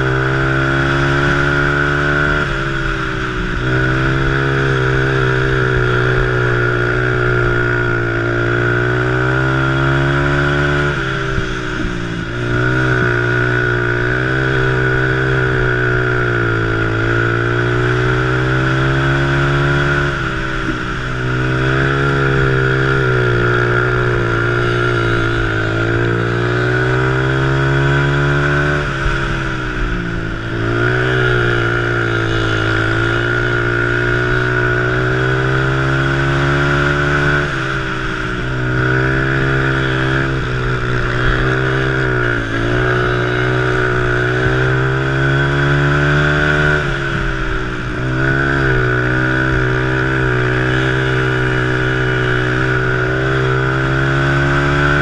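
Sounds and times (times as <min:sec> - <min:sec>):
three-wheeler engine revving: 0:00.0 - 0:55.0.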